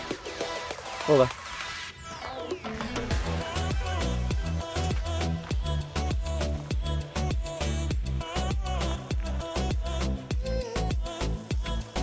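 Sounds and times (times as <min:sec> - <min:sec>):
upbeat latin afrobeat music: 0:00.0 - 0:12.0.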